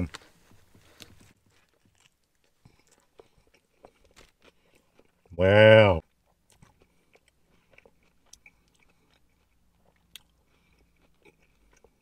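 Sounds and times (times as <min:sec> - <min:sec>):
chewing food: 0:00.1 - 0:05.3, 0:06.0 - 0:12.0.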